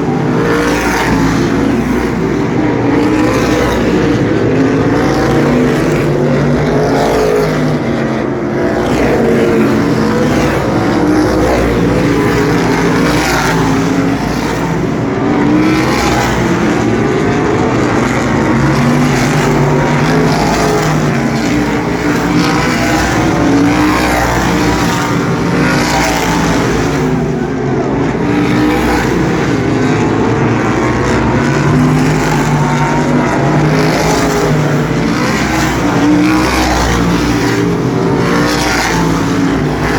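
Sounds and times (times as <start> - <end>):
race car engines at high revs: 0.0 - 39.9.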